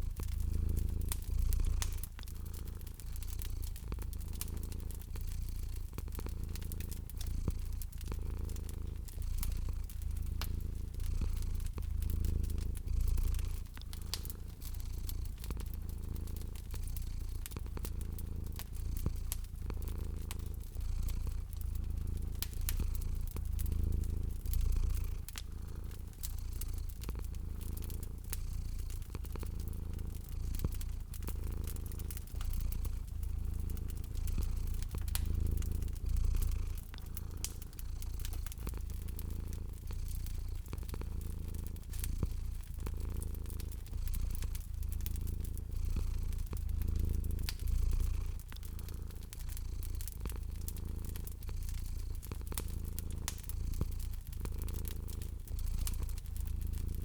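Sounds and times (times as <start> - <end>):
cat purring: 0.0 - 57.0
wood fire crackling: 0.0 - 57.0.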